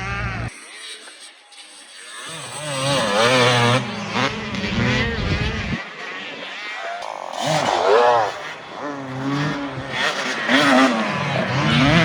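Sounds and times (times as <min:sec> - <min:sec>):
motocross engines revving: 0:00.0 - 0:12.0.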